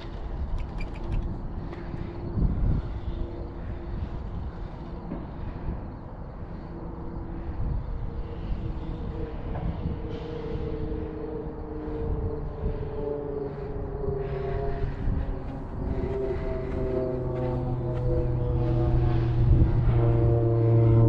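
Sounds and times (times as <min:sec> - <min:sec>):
faint steady hums: 0:00.0 - 0:21.0
wind rumbling on microphone: 0:00.0 - 0:21.0.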